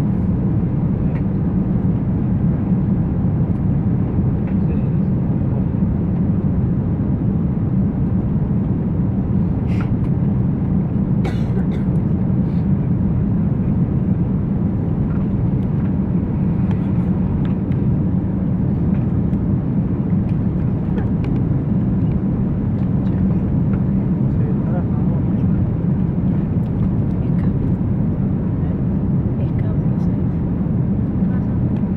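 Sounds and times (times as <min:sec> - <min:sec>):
airliner engine and airflow rumble: 0:00.0 - 0:31.9.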